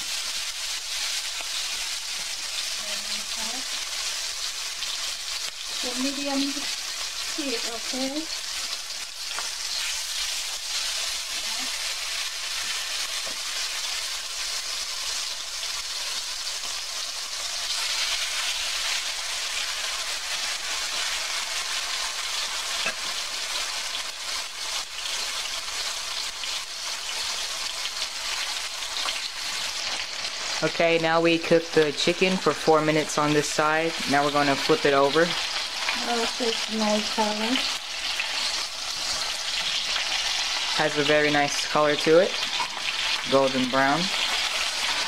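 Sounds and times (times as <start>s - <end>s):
chicken sizzling in a wok: 0.0s - 45.0s.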